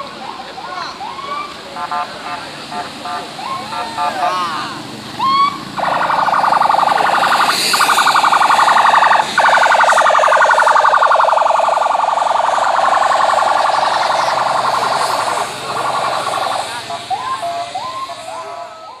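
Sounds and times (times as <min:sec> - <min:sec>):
police siren warbling: 0:00.0 - 0:19.0.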